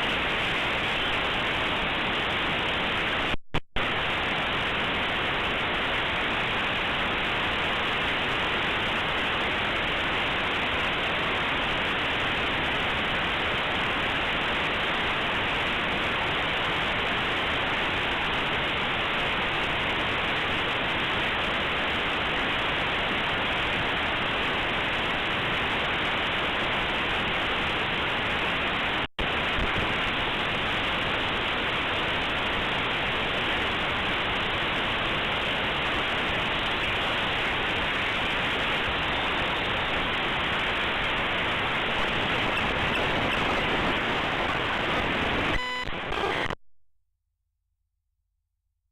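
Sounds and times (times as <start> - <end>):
steady white noise hiss: 0.0 - 46.4.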